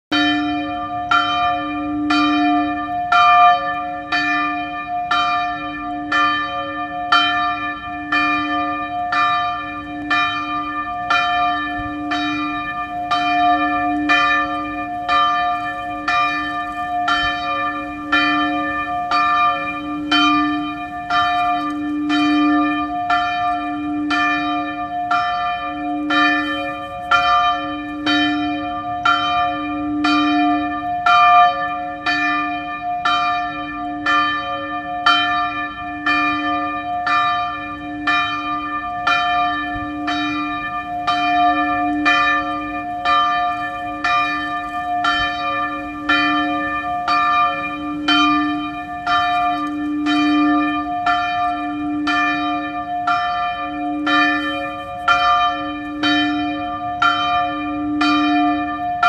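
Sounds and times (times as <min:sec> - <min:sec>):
church bell ringing: 0:00.1 - 0:59.0.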